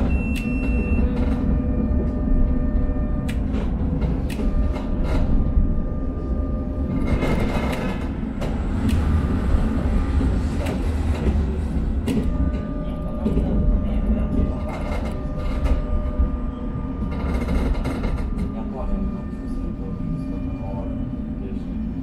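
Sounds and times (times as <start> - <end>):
faint whine: 0.0 - 22.0
tram rumbling on track: 0.0 - 22.0.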